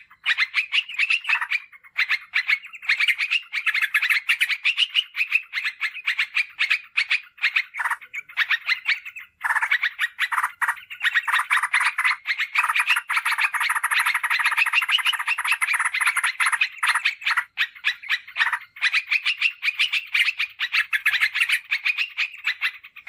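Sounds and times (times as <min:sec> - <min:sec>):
bulbul calling in fast runs: 0:00.0 - 0:23.0.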